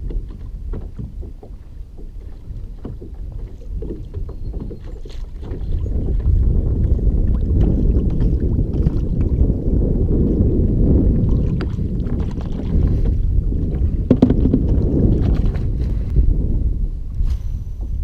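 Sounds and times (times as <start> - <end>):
faint water splashes: 0.0 - 16.2
wind buffeting microphone: 0.0 - 18.0.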